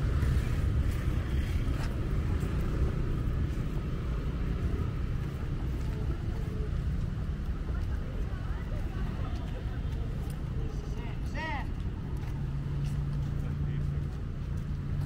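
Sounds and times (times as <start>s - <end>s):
faint traffic: 0.0s - 15.0s.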